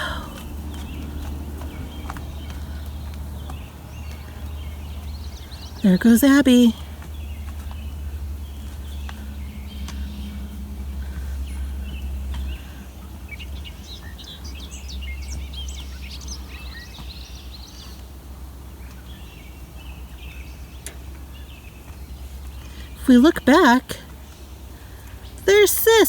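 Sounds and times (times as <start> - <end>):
steady low rumble: 0.0 - 23.2
small birds chirping: 0.0 - 26.0.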